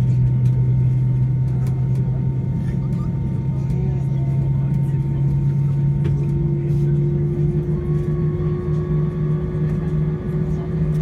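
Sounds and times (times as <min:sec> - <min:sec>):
jet engines humming: 0:00.0 - 0:11.0.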